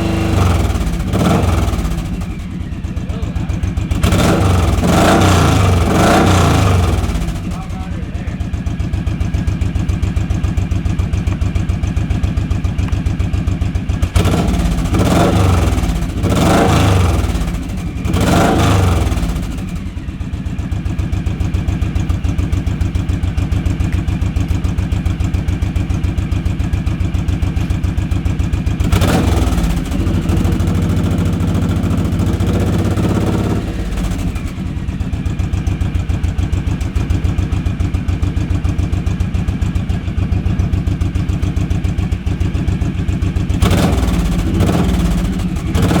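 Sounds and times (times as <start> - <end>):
motorcycle engine idling: 0.0 - 46.0
motorcycle engine revving: 0.0 - 46.0.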